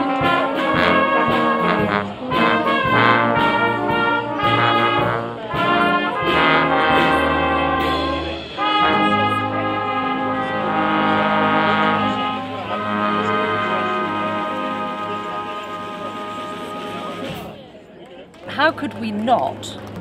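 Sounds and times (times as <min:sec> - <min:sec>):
brass instruments playing slow tune: 0:00.0 - 0:17.6.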